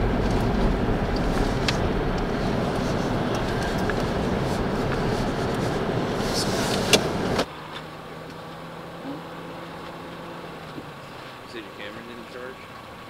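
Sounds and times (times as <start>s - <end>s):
low hum: 0.0s - 11.2s
car road and engine noise: 0.0s - 13.0s.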